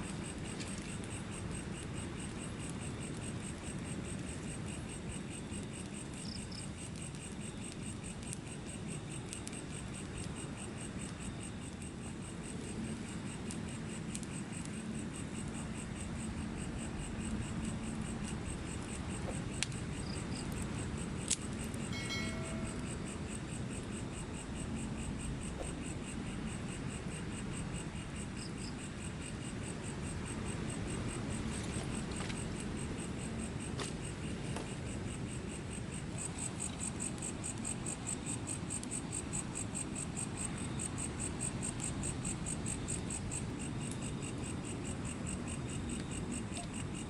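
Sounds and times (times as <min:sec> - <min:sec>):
insects chirping: 0:00.0 - 0:47.0.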